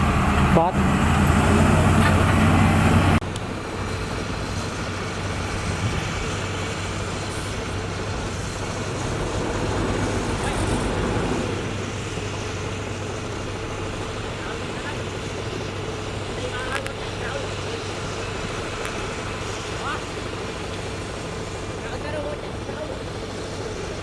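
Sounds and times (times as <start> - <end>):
construction machinery diesel engine: 0.0 - 24.0.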